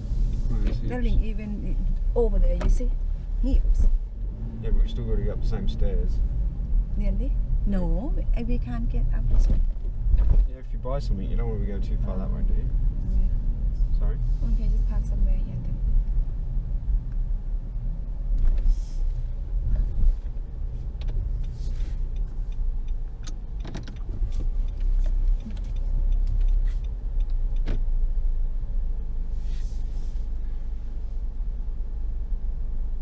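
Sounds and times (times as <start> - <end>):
car rolling low rumble: 0.0 - 33.0.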